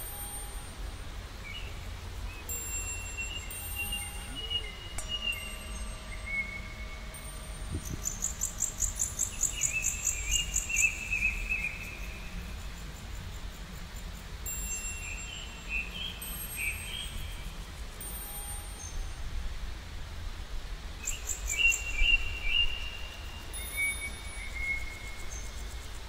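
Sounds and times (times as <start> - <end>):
songbirds singing: 1.4 - 17.6, 21.0 - 26.0.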